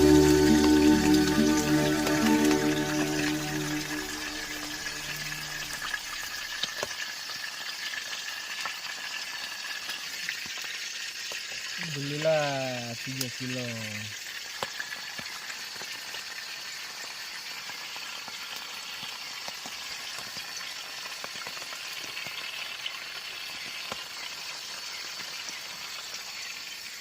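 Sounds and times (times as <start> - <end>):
food sizzling in hot oil: 0.0 - 27.0
oil popping and crackling: 0.0 - 27.0.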